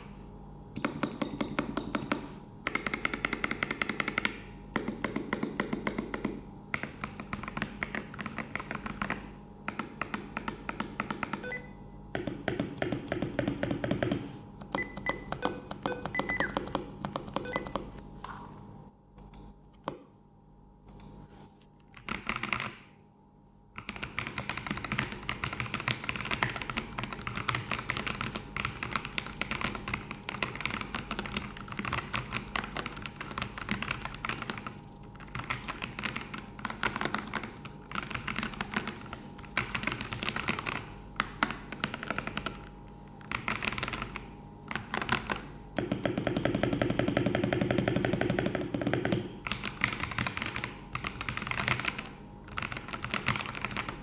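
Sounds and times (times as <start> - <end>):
mechanical keyboard typing: 0.8 - 17.8, 21.9 - 22.8, 23.8 - 54.0.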